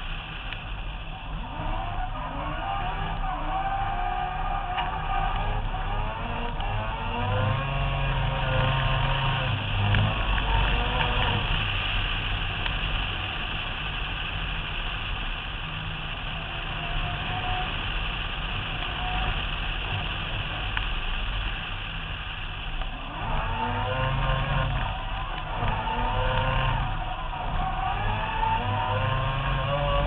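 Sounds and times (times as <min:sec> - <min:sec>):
rotary car engine running: 0:00.0 - 0:30.0.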